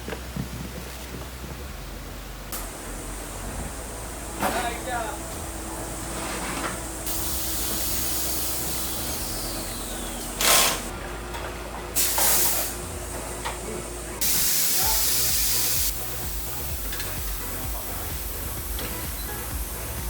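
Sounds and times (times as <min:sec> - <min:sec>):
pressurised gas hissing: 0:00.5 - 0:10.9, 0:12.0 - 0:20.0.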